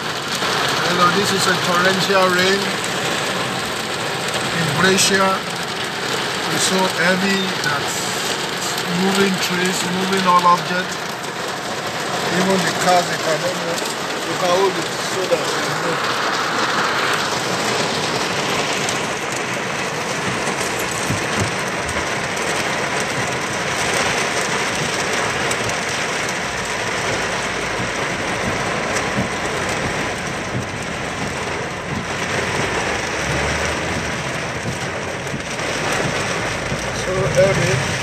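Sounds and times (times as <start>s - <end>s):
heavy rain on car roof: 0.0s - 38.0s.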